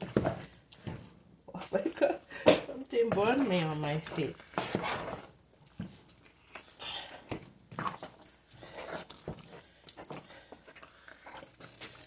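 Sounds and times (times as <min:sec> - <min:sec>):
wet mash squelching: 0:00.0 - 0:12.0.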